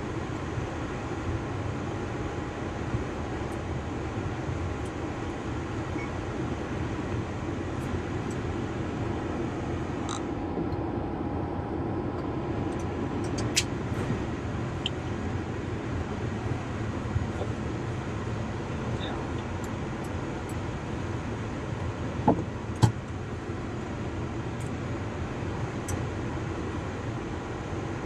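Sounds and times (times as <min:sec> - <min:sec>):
aircraft systems machine noise: 0:00.0 - 0:28.0.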